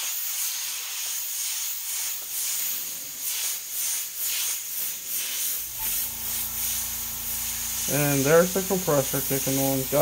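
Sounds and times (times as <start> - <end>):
airbrush hissing: 0.0 - 10.0.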